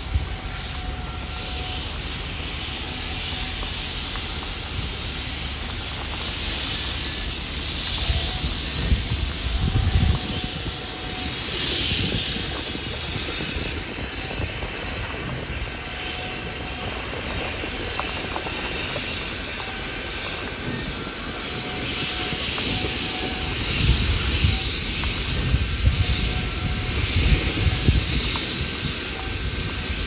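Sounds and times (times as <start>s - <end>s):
steam hissing: 0.0s - 30.0s
steam locomotive rumbling: 0.0s - 30.0s.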